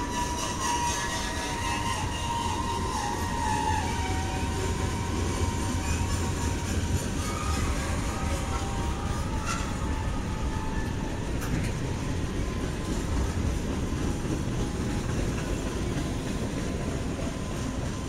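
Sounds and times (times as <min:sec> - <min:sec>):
steel wheels rumbling on rails: 0:00.0 - 0:18.0.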